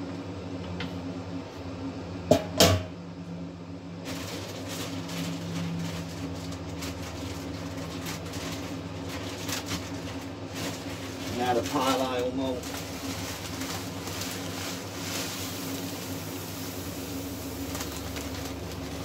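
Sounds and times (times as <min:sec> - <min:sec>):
low hum of brewing equipment: 0:00.0 - 0:19.0.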